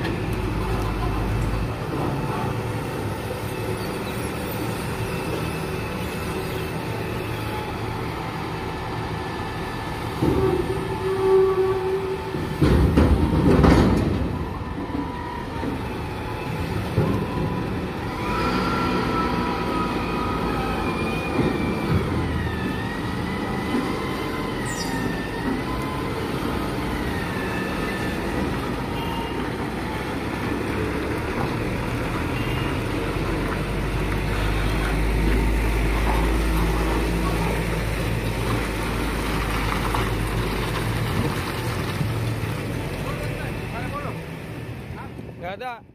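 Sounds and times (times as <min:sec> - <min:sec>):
truck diesel engine rumbling: 0:00.0 - 0:45.9.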